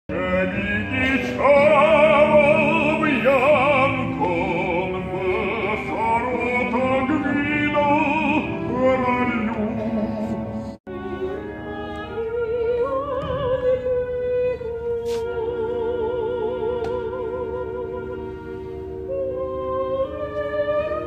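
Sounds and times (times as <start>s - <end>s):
operatic singing: 0.1s - 21.0s
orchestra playing: 0.1s - 21.0s.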